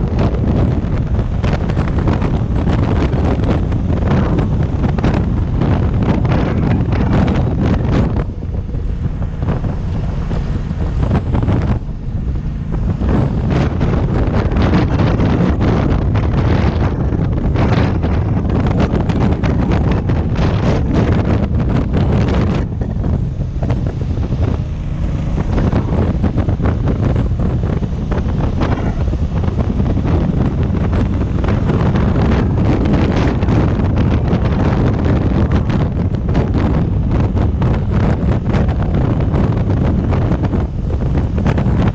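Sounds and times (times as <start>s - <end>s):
motorcycle low rumble: 0.0s - 41.9s
wind buffeting microphone: 0.0s - 41.9s.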